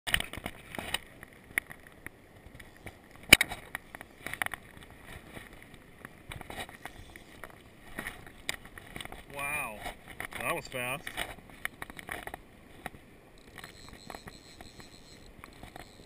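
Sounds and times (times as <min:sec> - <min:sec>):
camera handling clicks and rustles: 0:00.1 - 0:16.0.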